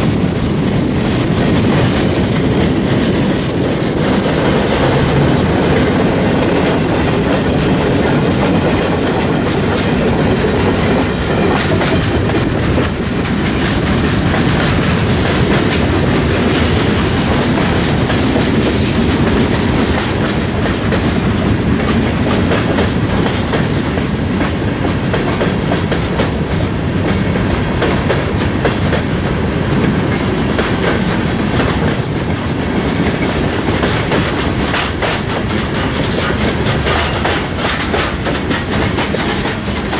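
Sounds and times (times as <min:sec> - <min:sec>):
steel wheels rumbling on rail: 0:00.0 - 0:39.9
wheels clacking over rail joints: 0:00.0 - 0:39.9.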